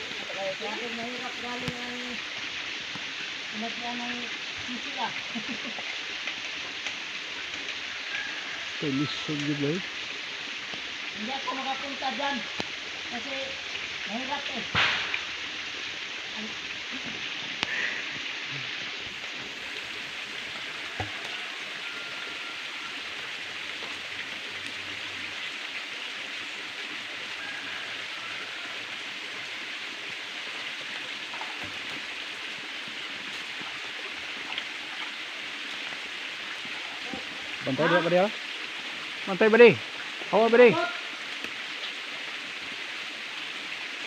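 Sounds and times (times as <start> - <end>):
forest background hiss: 0.0 - 44.0.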